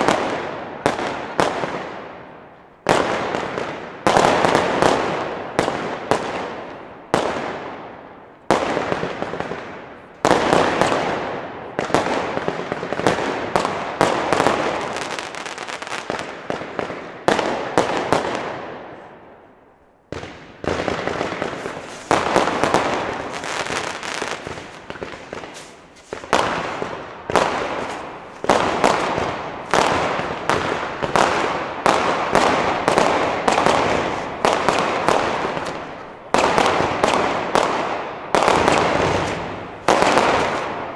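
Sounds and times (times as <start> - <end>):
fireworks firing with echoing bangs: 0.0 - 40.9.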